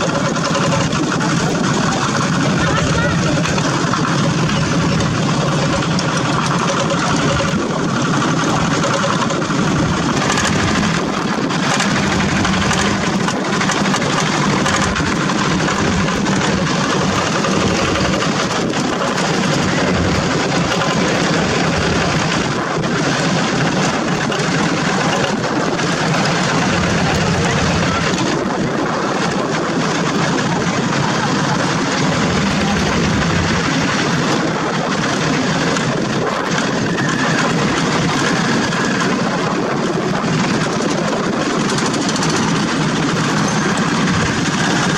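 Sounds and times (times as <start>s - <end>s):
diesel engines droning: 0.0s - 44.9s.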